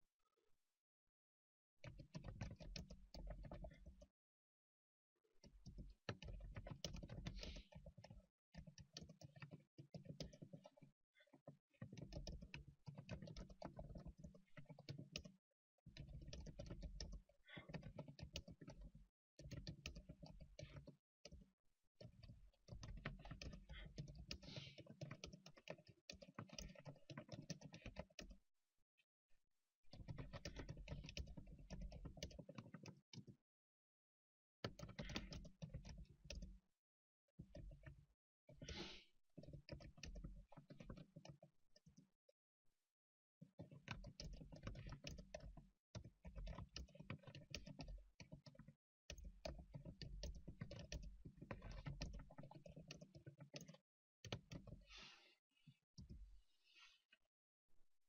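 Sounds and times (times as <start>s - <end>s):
faint keyboard typing: 1.8s - 4.1s, 5.4s - 28.4s, 29.9s - 33.4s, 34.6s - 36.6s, 37.4s - 42.1s, 43.4s - 57.0s.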